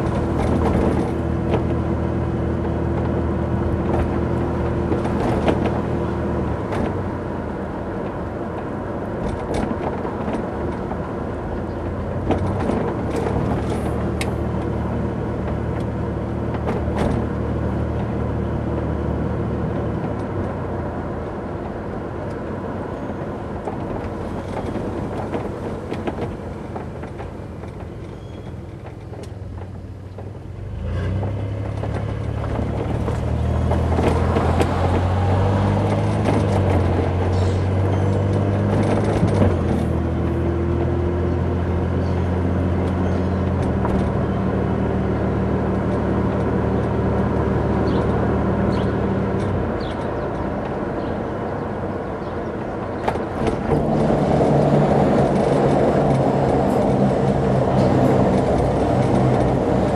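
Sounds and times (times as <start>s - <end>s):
knocks and rattles from bumps: 0.0s - 7.1s, 8.0s - 18.5s, 23.2s - 59.9s
road noise: 0.0s - 59.9s
vehicle engine hum: 0.0s - 59.9s.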